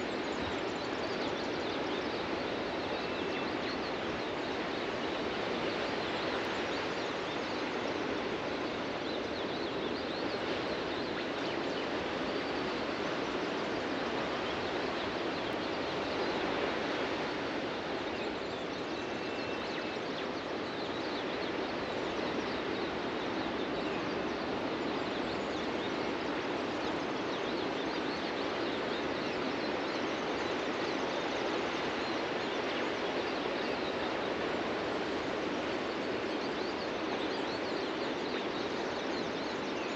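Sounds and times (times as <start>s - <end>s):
ocean surf on a beach: 0.0s - 39.9s.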